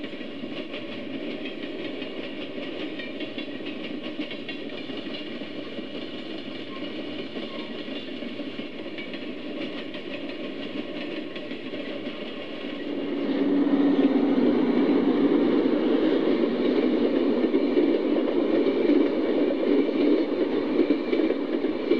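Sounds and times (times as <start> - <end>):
model train wheels rumbling on rails: 0.0 - 21.9.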